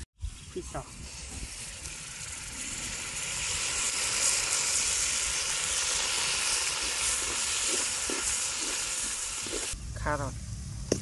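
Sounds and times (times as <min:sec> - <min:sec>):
garlic sizzling in oil: 0:00.3 - 0:09.8
sauce poured into hot oil: 0:00.4 - 0:09.8.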